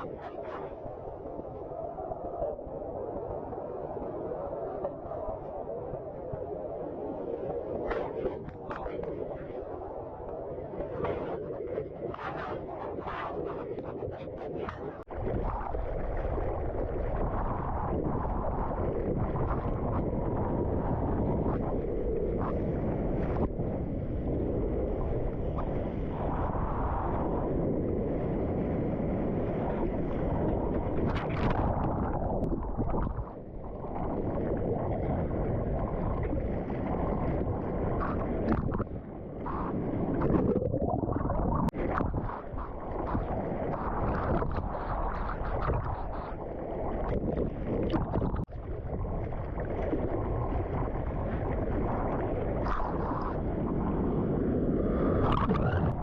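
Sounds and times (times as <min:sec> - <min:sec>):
muffled surf rushing: 0:00.0 - 0:56.0
wind noise on microphone: 0:00.0 - 0:56.0.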